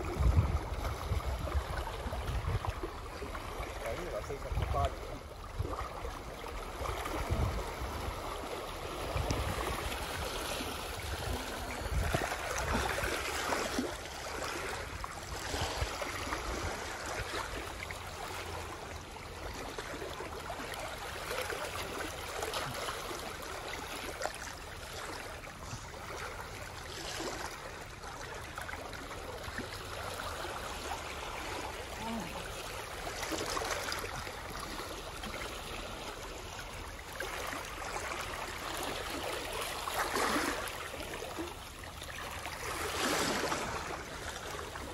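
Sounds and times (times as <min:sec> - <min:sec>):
small waves lapping on rocks: 0:00.0 - 0:44.9.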